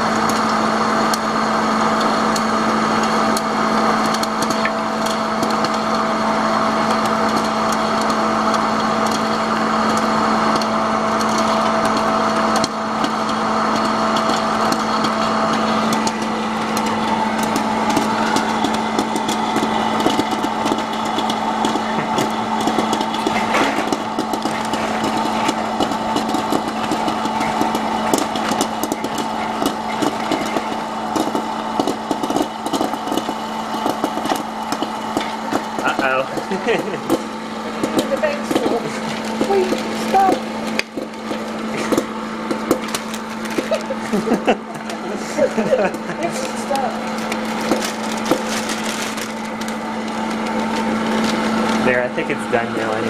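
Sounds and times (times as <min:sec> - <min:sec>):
popcorn kernels popping: 0:00.0 - 0:53.0
popcorn machine humming: 0:00.0 - 0:53.0.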